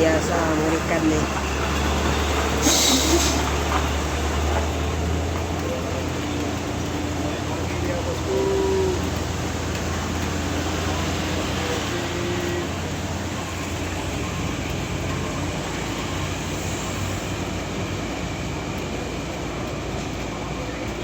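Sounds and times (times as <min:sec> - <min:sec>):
road noise: 0:00.0 - 0:21.0
truck diesel engine labouring: 0:00.0 - 0:21.0.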